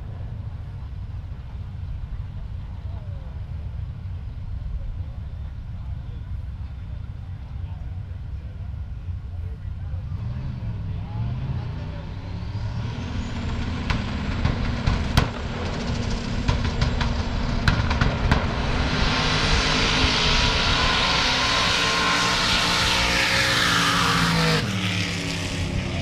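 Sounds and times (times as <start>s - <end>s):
drag racing engines rumbling: 0.0s - 26.0s
full-throttle car run: 0.0s - 26.0s.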